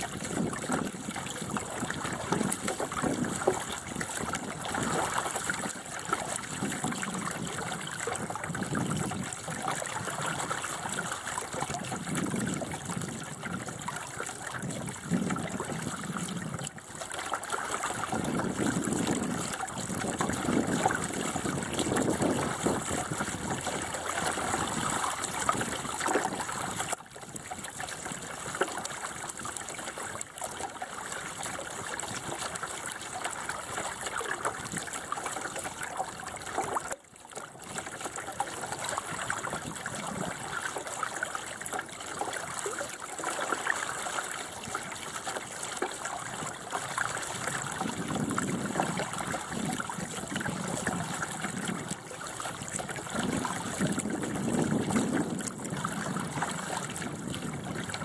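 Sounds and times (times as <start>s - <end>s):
water rushing along a boat hull: 0.0s - 58.0s.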